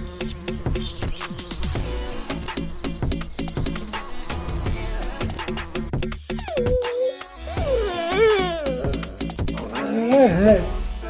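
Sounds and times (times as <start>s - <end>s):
music with drum beat: 0.0s - 11.0s.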